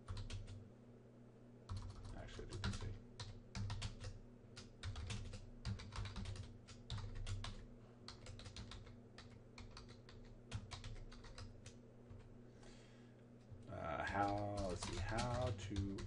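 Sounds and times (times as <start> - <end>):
typing on computer keyboard: 0.0 - 0.6, 1.7 - 12.3, 14.0 - 16.0
faint low hum: 0.0 - 16.0.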